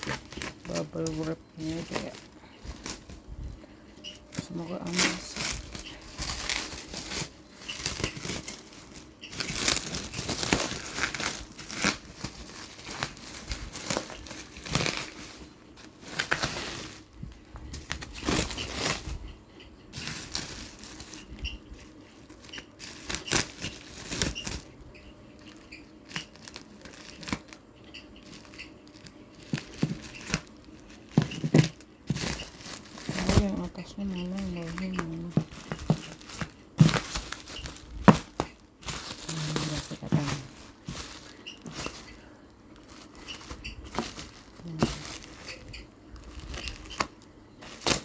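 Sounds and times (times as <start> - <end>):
bubble wrap crinkling and ripping: 0.0 - 19.2, 19.9 - 48.0.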